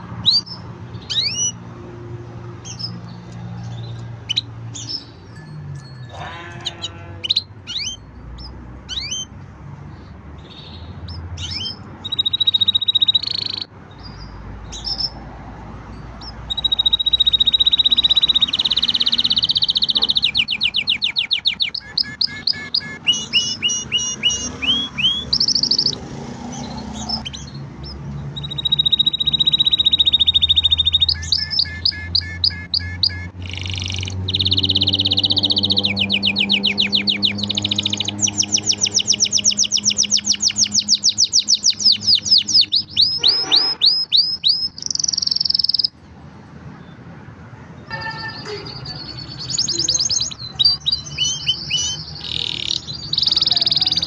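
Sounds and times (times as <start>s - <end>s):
canary singing trills: 0.0s - 46.0s, 47.8s - 54.0s.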